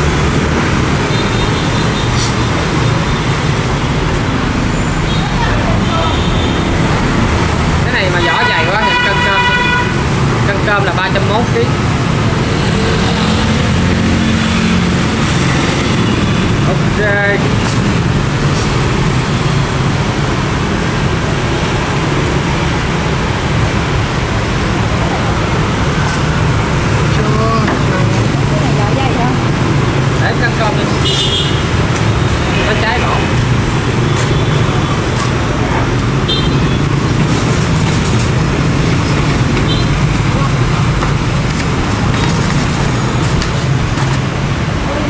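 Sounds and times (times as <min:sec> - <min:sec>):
street traffic rumble: 0:00.0 - 0:45.0.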